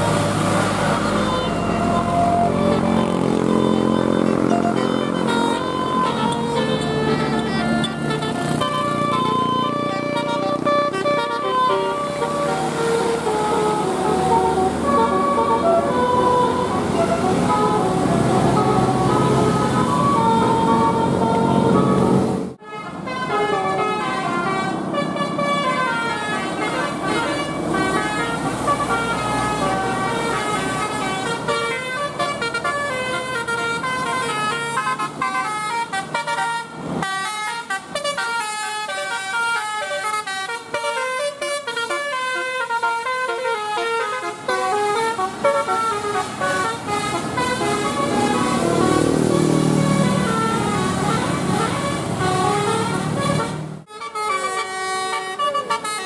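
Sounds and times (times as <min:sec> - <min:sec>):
bus horn playing a tune: 0:00.0 - 0:56.0.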